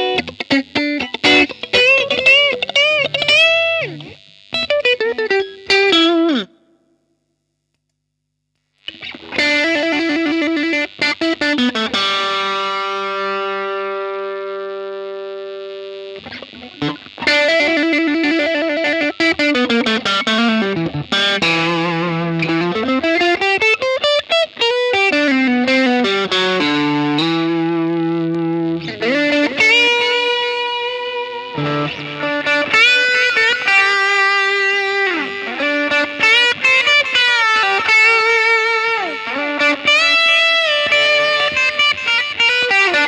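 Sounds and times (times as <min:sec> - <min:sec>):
distorted electric guitar: 0:00.0 - 0:06.8, 0:08.6 - 0:43.0.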